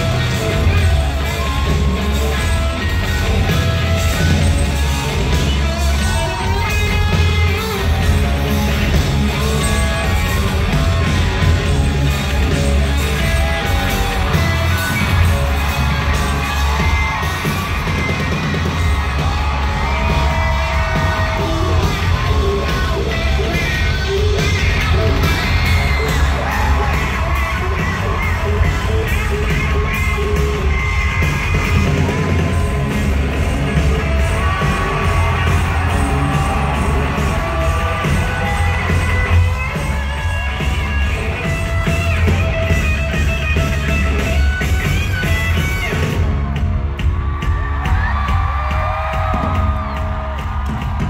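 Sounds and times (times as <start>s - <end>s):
crowd yelling: 0.0s - 51.0s
live rock band playing: 0.0s - 51.0s.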